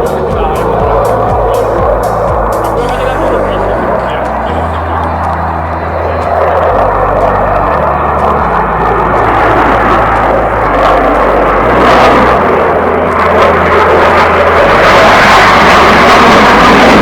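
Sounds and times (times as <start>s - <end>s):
aircraft engines overhead: 0.0s - 17.0s.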